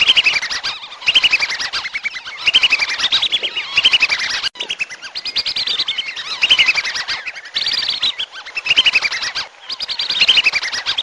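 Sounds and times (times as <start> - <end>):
whistling ducks calling: 0.0 - 11.0.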